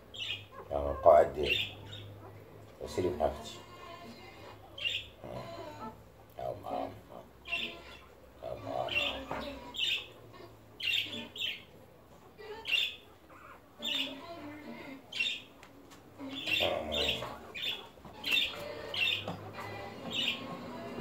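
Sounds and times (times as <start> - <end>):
puppies squeaking: 0.0 - 6.0, 6.7 - 15.6, 16.2 - 21.0.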